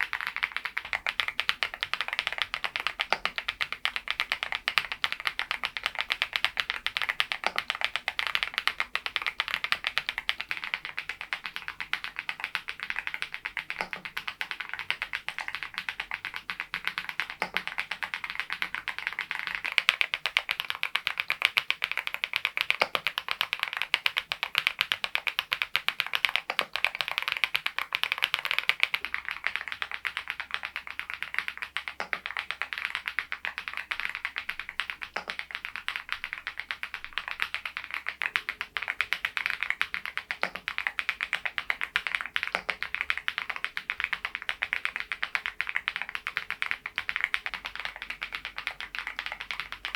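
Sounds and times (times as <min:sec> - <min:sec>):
fast typing on mechanical keyboard: 0:00.0 - 0:49.9.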